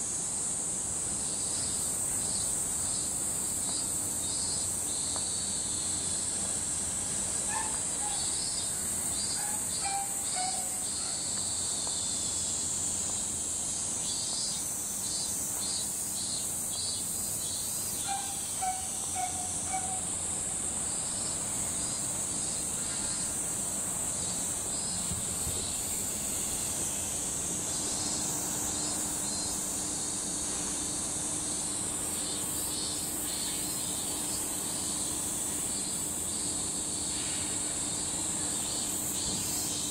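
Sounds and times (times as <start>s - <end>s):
faint steady hum: 0.0s - 39.9s
insect chorus droning: 0.0s - 39.9s.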